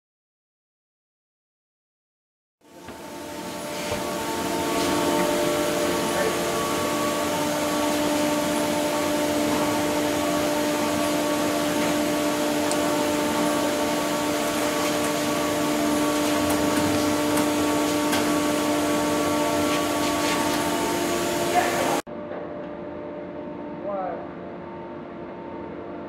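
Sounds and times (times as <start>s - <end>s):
machine hum: 2.6s - 26.0s.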